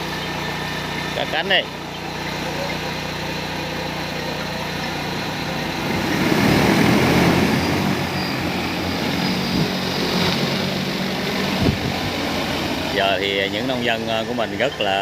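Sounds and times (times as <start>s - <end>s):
drone rotor hum: 0.0s - 15.0s.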